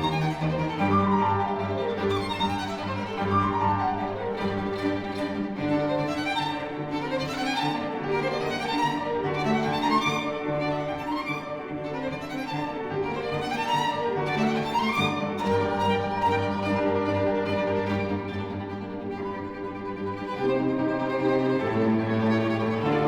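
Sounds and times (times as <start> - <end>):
violin and cello playing: 0.0 - 23.0.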